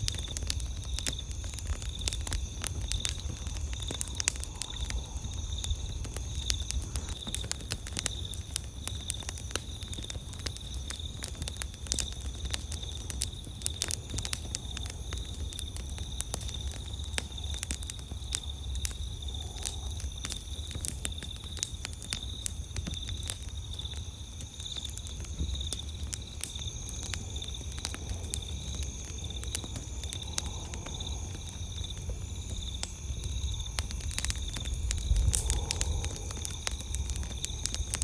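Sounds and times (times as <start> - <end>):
campfire crackling and popping: 0.0 - 38.0
crickets chirring: 0.0 - 38.0.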